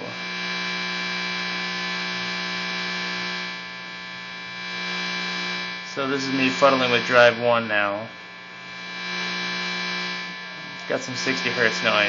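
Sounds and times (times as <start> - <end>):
guitar amplifier mains hum and buzz: 0.0 - 12.0.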